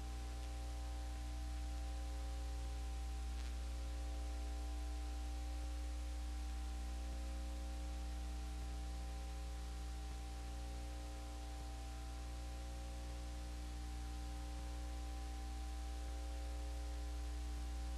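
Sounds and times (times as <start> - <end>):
electrical mains hum: 0.0 - 17.9.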